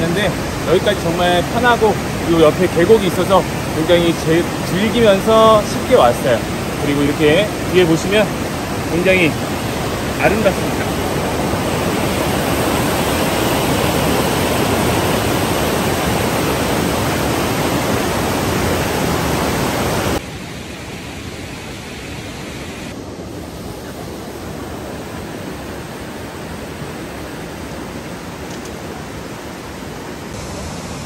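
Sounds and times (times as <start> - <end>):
stream rushing over boulders: 0.0 - 20.3, 22.4 - 31.0.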